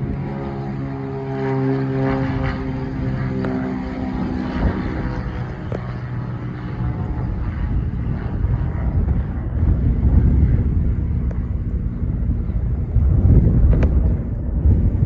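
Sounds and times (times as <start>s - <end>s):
propeller airplane engine drone: 0.0s - 15.0s
wind buffeting microphone: 0.0s - 15.0s.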